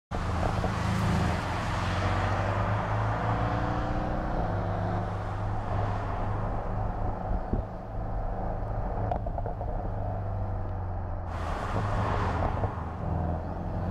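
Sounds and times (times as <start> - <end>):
car engine accelerating: 0.1 - 13.9.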